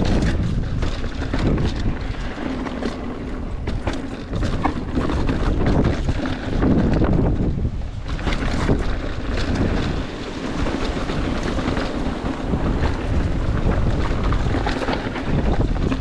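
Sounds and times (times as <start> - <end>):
bike clicks and rattles: 0.0 - 16.0
tyre rumble on rock and dirt: 0.0 - 16.0
wind buffeting microphone: 0.0 - 16.0.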